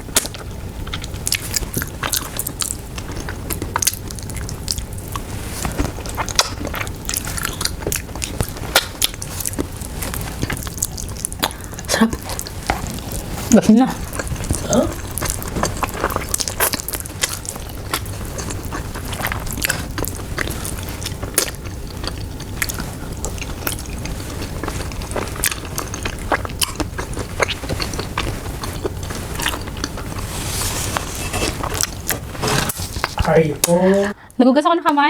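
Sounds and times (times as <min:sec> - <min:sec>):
chewing and biting food: 0:00.0 - 0:34.1.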